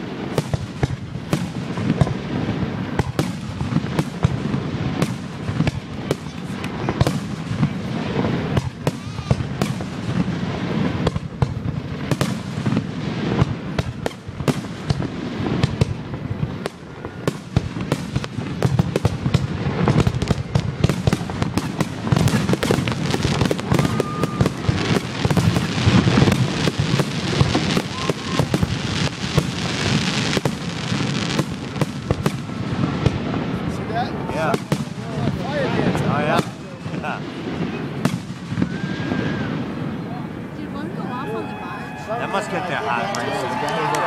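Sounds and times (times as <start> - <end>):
fireworks bursting: 0.0 - 44.0.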